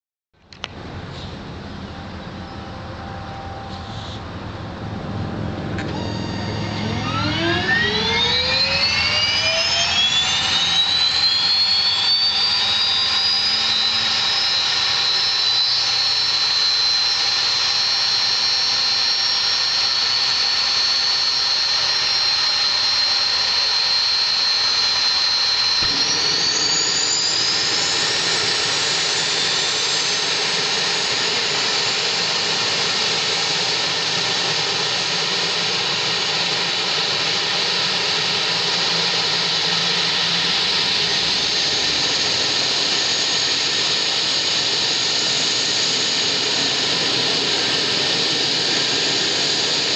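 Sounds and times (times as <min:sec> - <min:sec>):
turboprop engine whine: 0:00.4 - 0:49.9.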